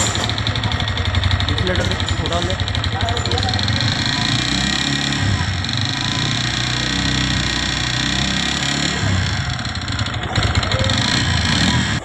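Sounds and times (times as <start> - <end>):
engine knocking: 0.0 - 12.0
motorcycle engine running: 0.0 - 12.0.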